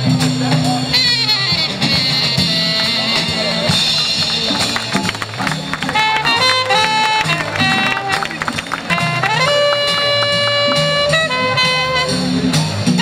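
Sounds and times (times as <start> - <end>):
alto saxophone: 0.0 - 13.0
bass line: 0.0 - 13.0
drums: 0.0 - 13.0
trumpet: 0.6 - 13.0.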